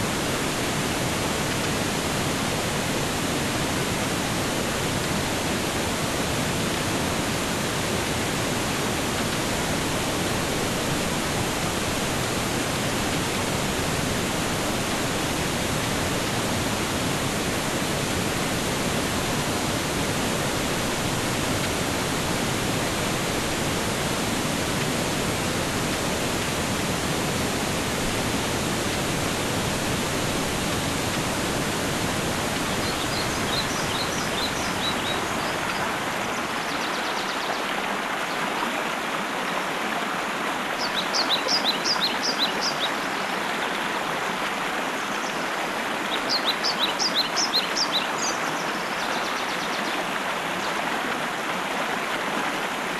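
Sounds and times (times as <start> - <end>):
rushing water: 0.0 - 52.9.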